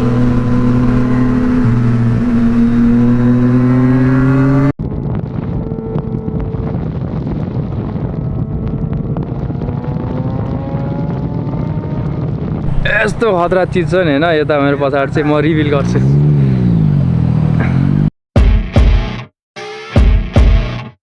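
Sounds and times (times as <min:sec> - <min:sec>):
motorcycle engine running: 0:00.0 - 0:07.0, 0:07.6 - 0:18.0.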